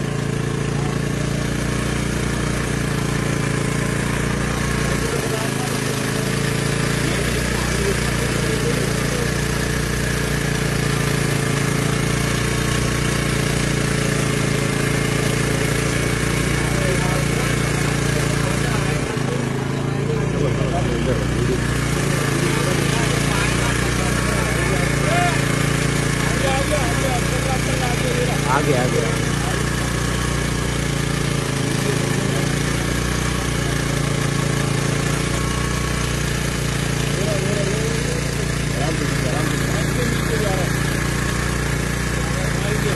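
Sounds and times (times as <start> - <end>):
boat engine idling: 0.0 - 42.9.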